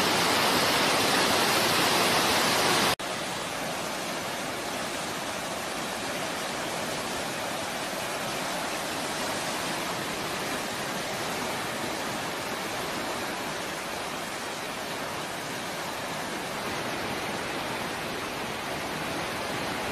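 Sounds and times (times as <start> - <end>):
river floodwater rushing: 0.0 - 19.9.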